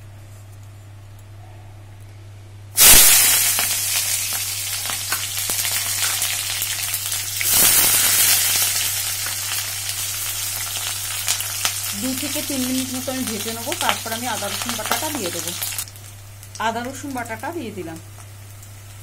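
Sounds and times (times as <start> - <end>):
onion sizzling in hot oil: 2.8 - 19.0.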